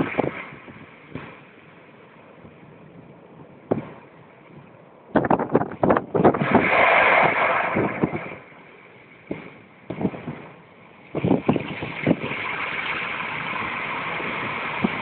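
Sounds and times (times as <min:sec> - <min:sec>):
wind buffeting microphone: 0:00.0 - 0:01.4, 0:02.3 - 0:08.6, 0:09.2 - 0:15.0.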